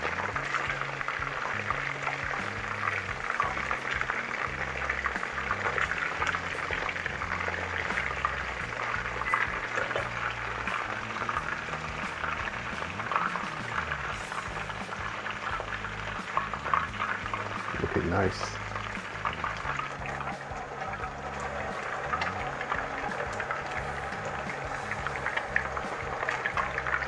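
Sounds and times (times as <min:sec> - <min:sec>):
chicken frying in hot oil: 0:00.0 - 0:27.0.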